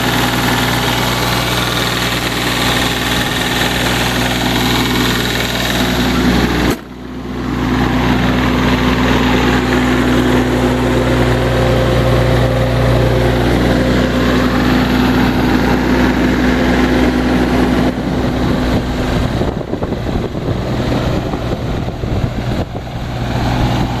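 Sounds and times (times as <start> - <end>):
diesel excavator engine running: 0.0 - 24.0.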